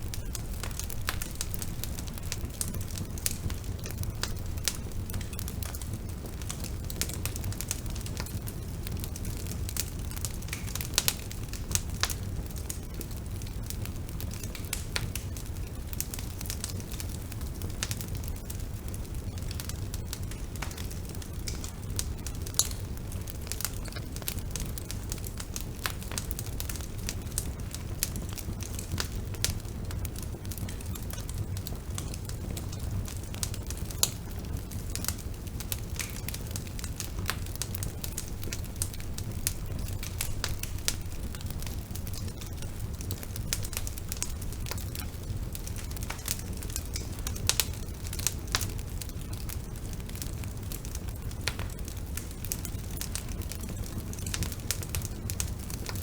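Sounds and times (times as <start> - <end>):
burning wood crackling and popping: 0.0 - 56.0
low rumble of flame: 0.0 - 56.0.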